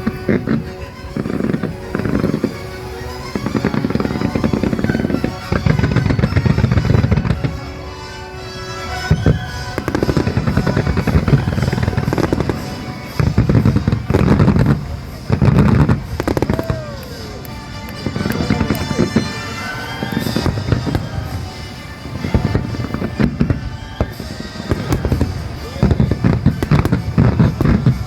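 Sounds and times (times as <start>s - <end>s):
fireworks bursting and crackling: 0.0s - 28.0s
music playing: 0.0s - 28.0s.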